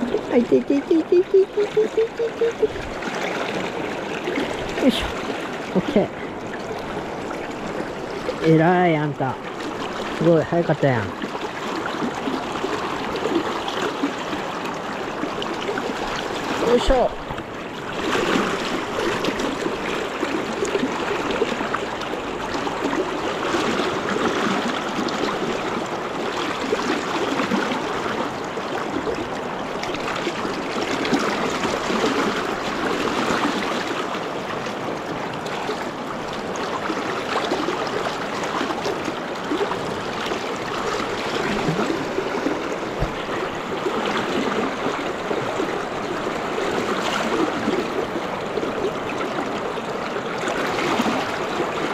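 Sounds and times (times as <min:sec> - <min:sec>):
river rushing: 0:00.0 - 0:51.9.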